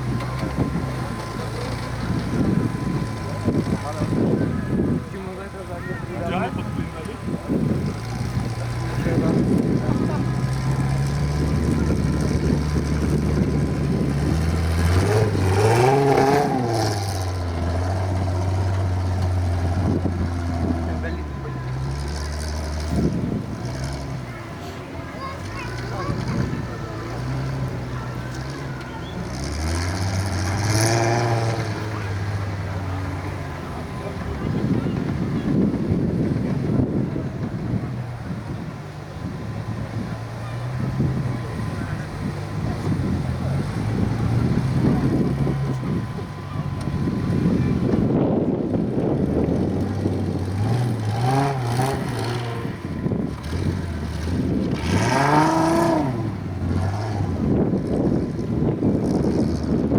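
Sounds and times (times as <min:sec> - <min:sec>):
vehicle engine running at low revs: 0:00.0 - 0:59.9.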